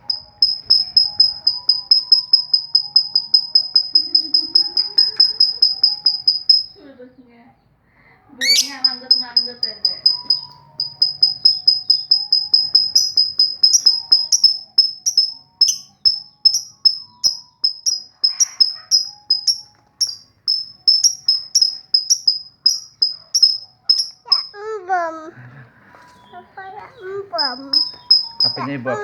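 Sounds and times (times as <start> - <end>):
lovebird high-pitched chirps: 0.0 - 6.9, 8.4 - 25.3, 26.0 - 29.0.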